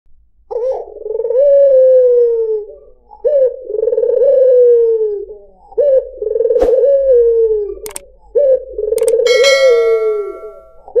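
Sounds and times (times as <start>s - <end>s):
dove cooing: 0.5s - 9.9s.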